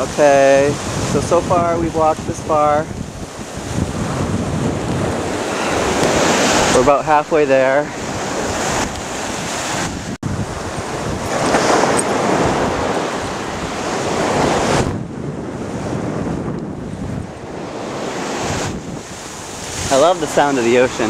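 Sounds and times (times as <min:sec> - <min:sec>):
ocean surf washing onto beach: 0:00.0 - 0:21.0
wind buffeting microphone: 0:00.0 - 0:21.0.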